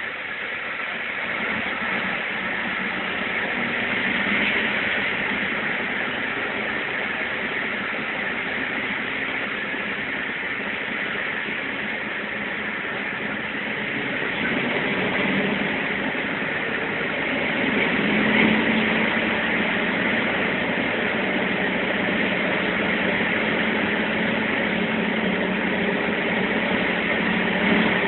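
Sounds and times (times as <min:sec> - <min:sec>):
faint low engine hum: 0:00.0 - 0:28.0
train rumbling through tunnel: 0:00.0 - 0:28.0.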